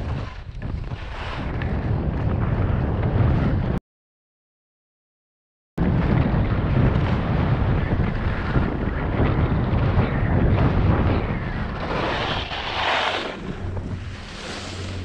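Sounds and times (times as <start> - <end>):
skis scraping over snow: 0.0 - 3.6, 6.1 - 15.0
wind buffeting microphone: 0.0 - 3.8, 5.8 - 15.0.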